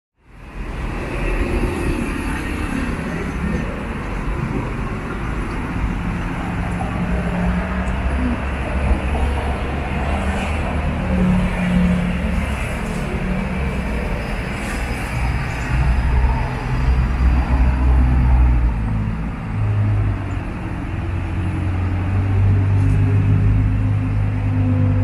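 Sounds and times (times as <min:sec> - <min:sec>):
street traffic rumble: 0:00.2 - 0:25.0.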